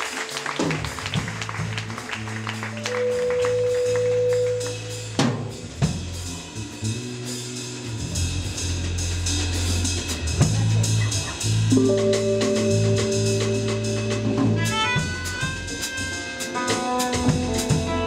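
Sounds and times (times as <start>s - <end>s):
drum kit: 0.0s - 18.0s
jazz band playing: 0.0s - 18.0s.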